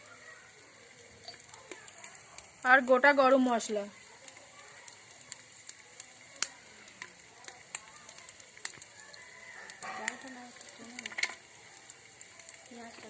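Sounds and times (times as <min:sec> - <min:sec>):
sharp crackling pops: 0:00.0 - 0:13.0
spices sizzling in hot oil: 0:00.0 - 0:13.0.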